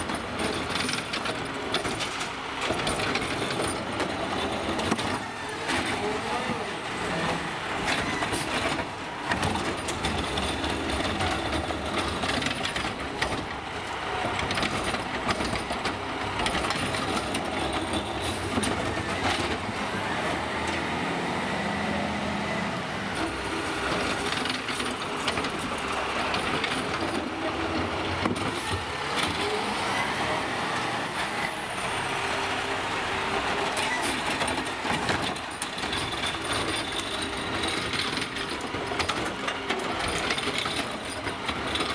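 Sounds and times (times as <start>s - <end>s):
garbage truck engine running: 0.0s - 41.9s.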